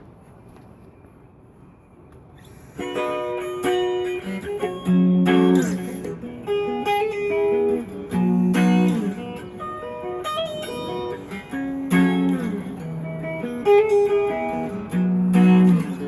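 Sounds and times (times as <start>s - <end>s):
electric guitar playing: 2.7s - 16.0s.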